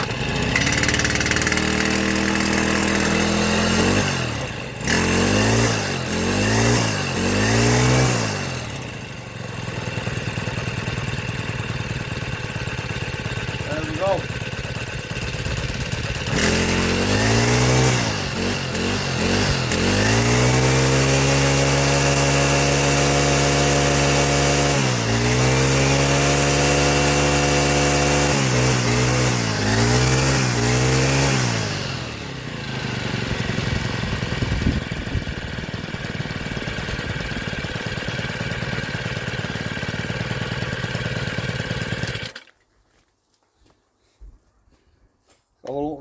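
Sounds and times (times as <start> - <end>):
strimmer engine revving: 0.0 - 42.5.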